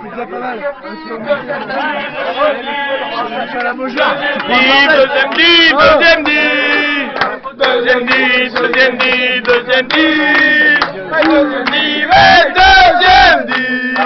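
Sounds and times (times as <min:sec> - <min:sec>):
men chanting together: 0:01.1 - 0:14.0.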